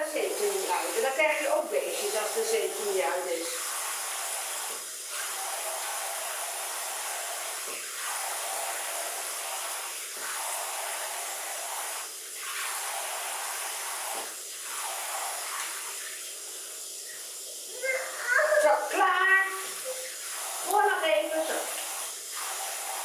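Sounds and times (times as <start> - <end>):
shower head spraying water: 0.0 - 23.0.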